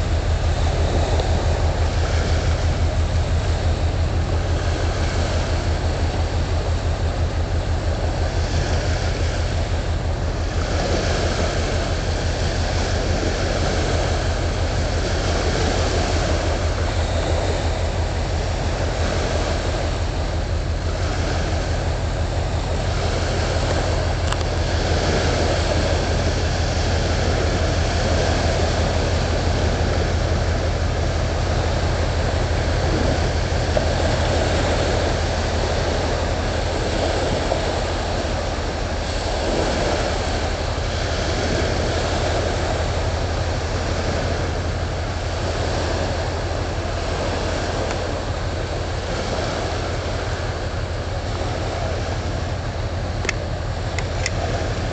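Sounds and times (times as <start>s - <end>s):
marine engine running: 0.0s - 54.9s
wind and water rushing: 0.0s - 54.9s.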